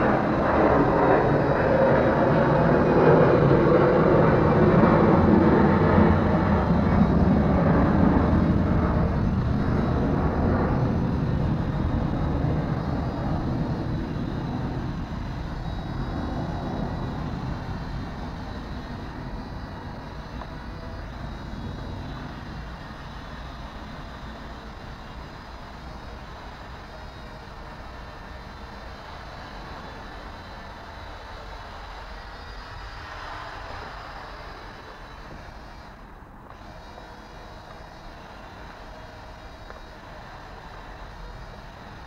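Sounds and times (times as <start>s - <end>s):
drone propellers and motors: 0.0s - 42.0s.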